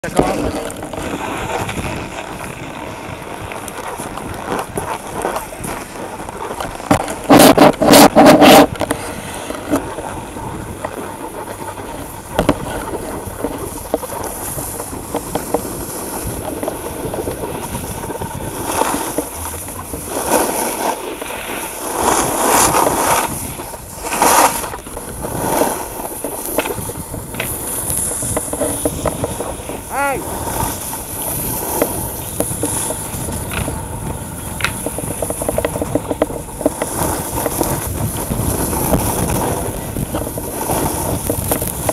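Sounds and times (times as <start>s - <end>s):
snowboards scraping on snow: 0.0s - 41.9s
wind on microphone: 0.0s - 41.9s.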